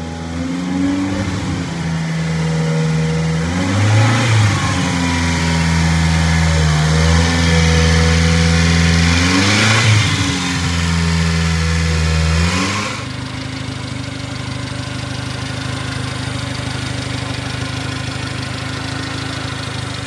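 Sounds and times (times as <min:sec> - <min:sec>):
small truck engine idling and revving: 0:00.0 - 0:20.0.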